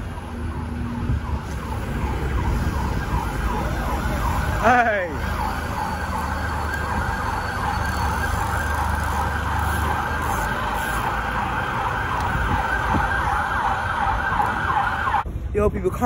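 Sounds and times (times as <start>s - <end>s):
emergency siren yelping: 0.0s - 15.3s
low traffic rumble: 0.0s - 16.0s.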